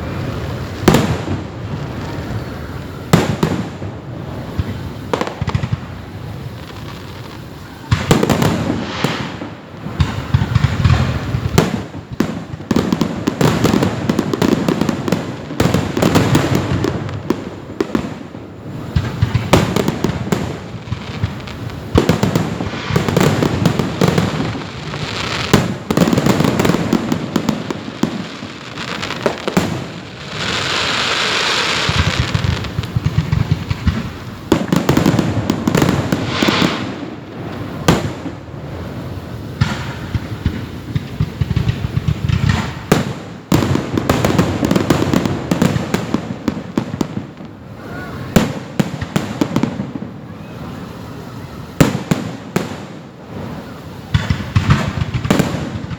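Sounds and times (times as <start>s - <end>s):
fireworks bursting: 0.0s - 55.9s
fireworks hiss: 0.0s - 55.9s.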